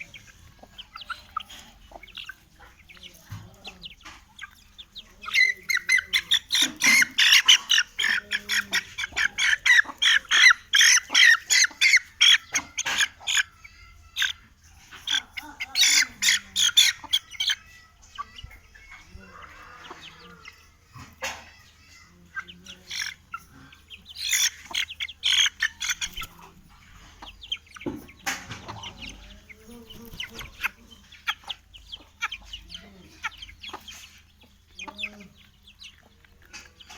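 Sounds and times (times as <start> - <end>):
chickens clucking: 0.0 - 36.9
chicks peeping: 0.0 - 36.9.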